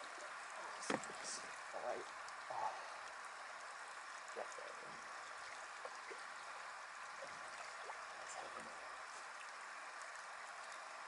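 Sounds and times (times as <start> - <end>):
creek trickling over rocks: 0.0 - 11.0.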